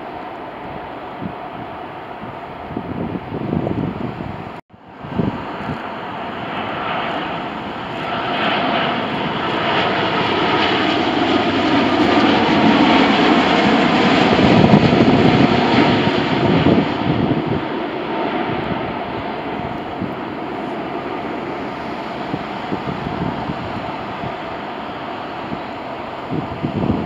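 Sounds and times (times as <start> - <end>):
jet airliner noise: 0.0 - 27.0.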